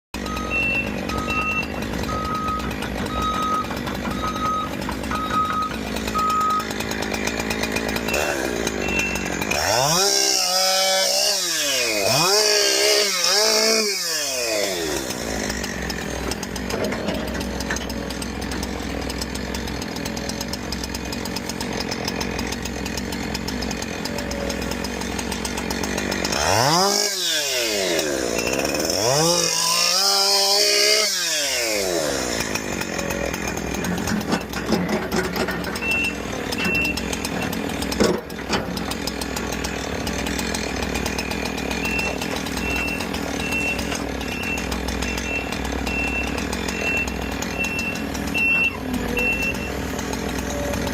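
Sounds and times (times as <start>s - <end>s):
engine running steadily: 0.2s - 9.9s, 13.4s - 26.8s, 31.5s - 50.9s
chainsaw revving while cutting: 0.2s - 50.9s.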